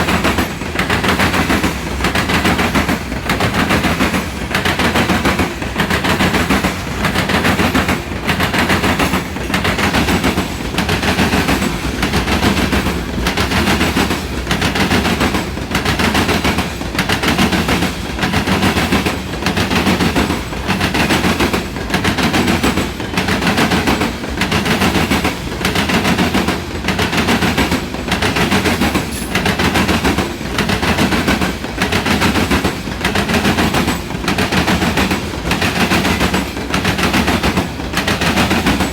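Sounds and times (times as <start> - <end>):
train rumble: 0.0 - 38.9
train wheels clacking over rail joints: 0.0 - 38.9.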